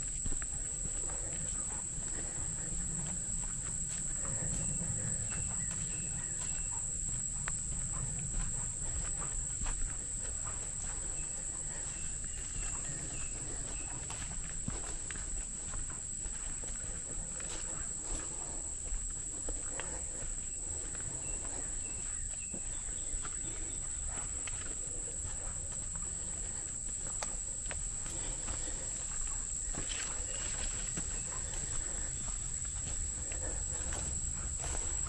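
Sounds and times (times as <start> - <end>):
footsteps on dirt trail: 0.0 - 35.0
insects chorus: 0.0 - 35.0.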